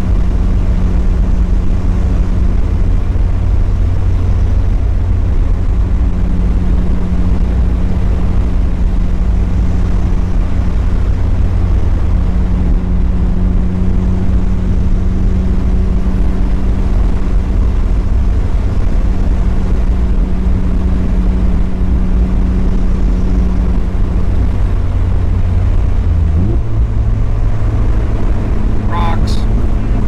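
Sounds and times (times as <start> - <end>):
car engine cruising: 0.0 - 30.0.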